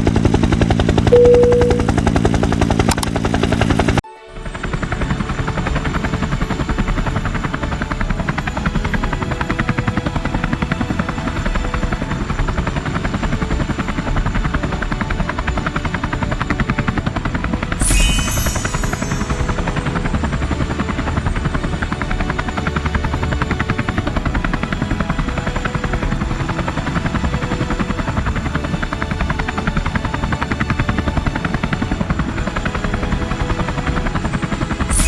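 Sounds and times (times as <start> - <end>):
helicopter engine drone: 0.0 - 35.0
helicopter rotor beat: 0.0 - 35.0.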